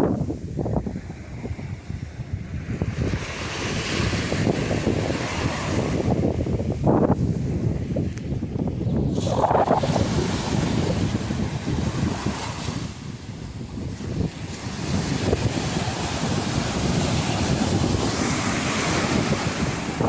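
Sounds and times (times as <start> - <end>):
sea waves on a beach: 0.0 - 20.0
wind buffeting microphone: 0.0 - 20.0.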